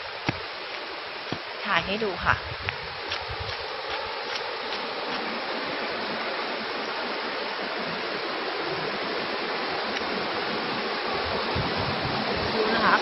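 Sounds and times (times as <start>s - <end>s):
stream rushing over boulders: 0.0s - 13.0s.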